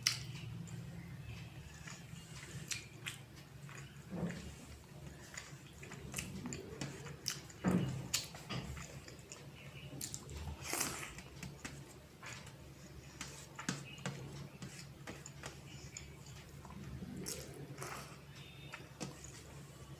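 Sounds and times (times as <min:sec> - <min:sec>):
person chewing food: 0:00.0 - 0:19.9.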